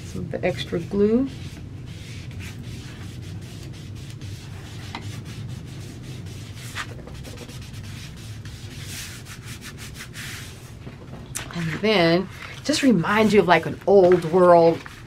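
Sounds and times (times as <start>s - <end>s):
low steady hum: 0.0s - 15.0s
hands rubbing paper: 0.6s - 10.9s, 11.6s - 15.0s.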